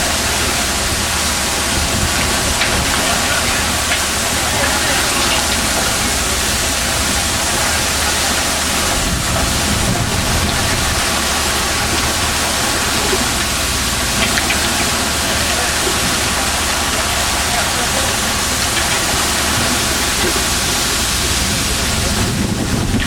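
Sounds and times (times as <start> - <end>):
boat engine running: 0.0 - 23.0
wind and water rushing: 0.0 - 23.0.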